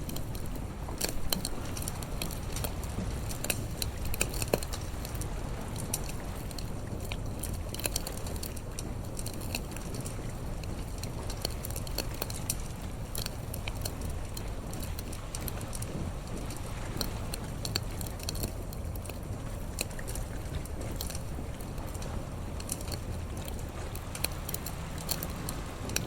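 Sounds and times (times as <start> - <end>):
bonfire crackling: 0.0 - 26.0.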